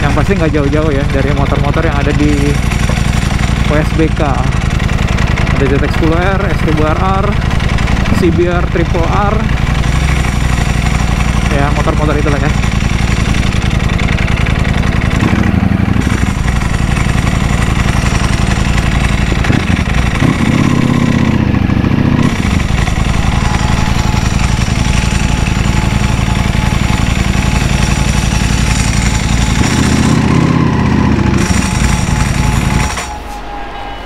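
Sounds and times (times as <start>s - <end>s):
motorcycle engine running: 0.0s - 33.2s.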